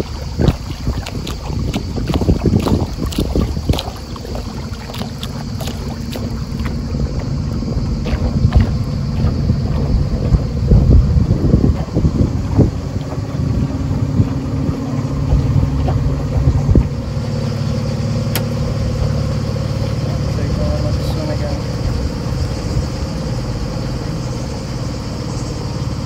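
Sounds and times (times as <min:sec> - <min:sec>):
wind buffeting microphone: 0:00.0 - 0:24.6
faint engine hum: 0:00.0 - 0:26.0
small water splashes: 0:00.0 - 0:26.0.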